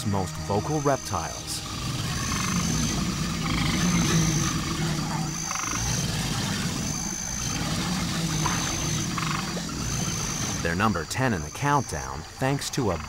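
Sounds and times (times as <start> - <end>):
alligator bellowing: 0.0 - 13.0.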